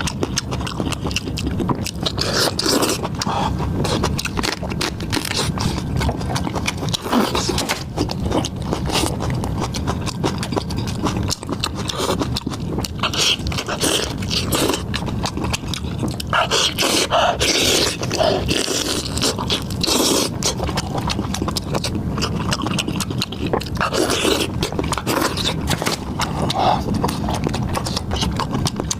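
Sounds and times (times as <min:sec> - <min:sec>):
chewing with wet mouth smacks: 0:00.0 - 0:28.9.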